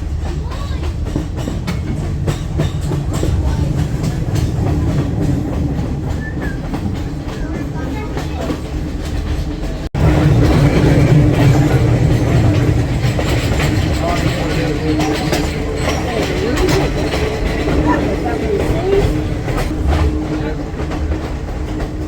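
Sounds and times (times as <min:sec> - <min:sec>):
train rumbling: 0:00.0 - 0:22.0
wheels clacking over rail joints: 0:00.0 - 0:22.0.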